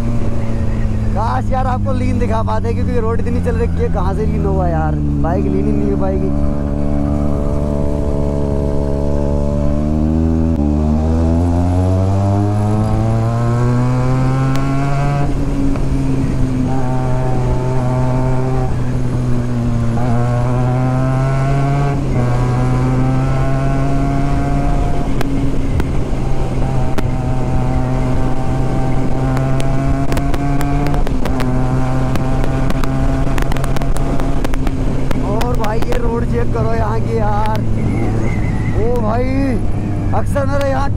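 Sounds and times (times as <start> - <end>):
motorcycle accelerating: 0.0 - 40.9.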